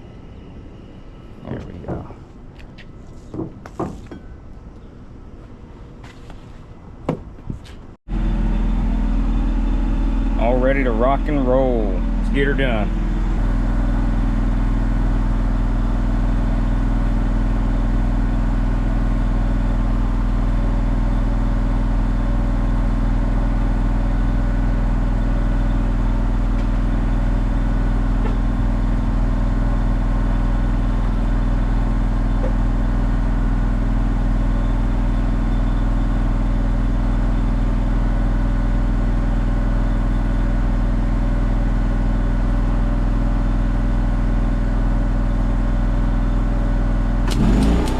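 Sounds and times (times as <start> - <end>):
welder engine running: 8.1 - 47.9.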